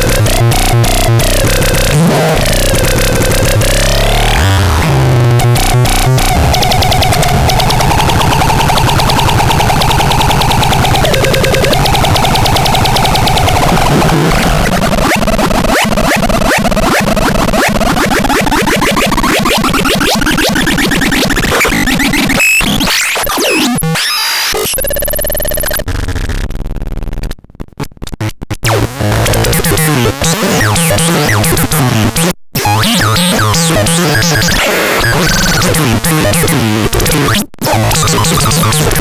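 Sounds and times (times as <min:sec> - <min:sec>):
harsh synthesizer tones: 0:00.0 - 0:26.4, 0:28.2 - 0:39.0.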